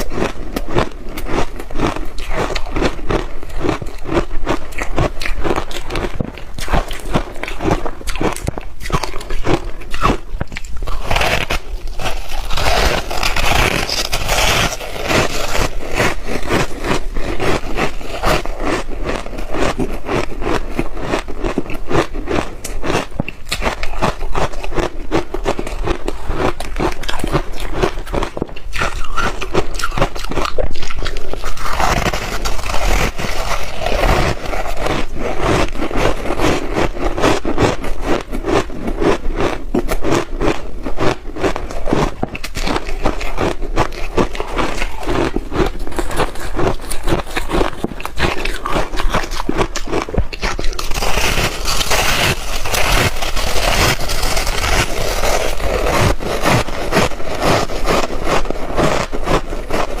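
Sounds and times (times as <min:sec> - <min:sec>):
chewing ice crunches: 0:00.0 - 1:00.0.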